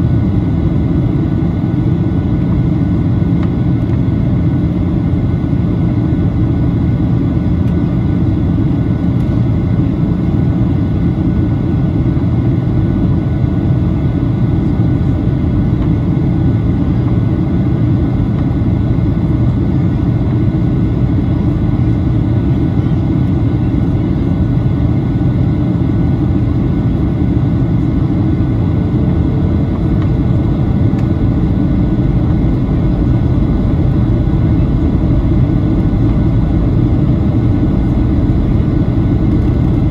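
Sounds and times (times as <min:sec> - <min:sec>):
airplane cabin engine rush: 0:00.0 - 0:39.9
faint steady whining tones: 0:00.0 - 0:39.9.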